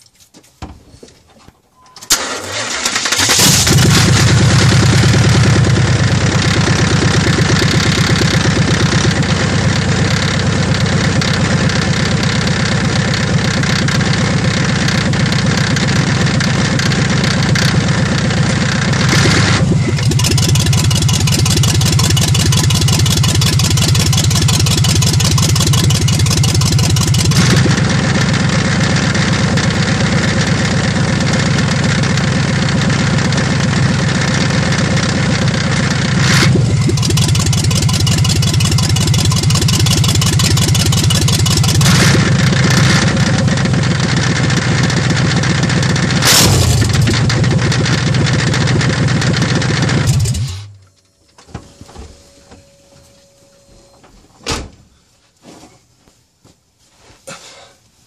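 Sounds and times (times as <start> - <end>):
truck engine running: 2.1 - 50.8.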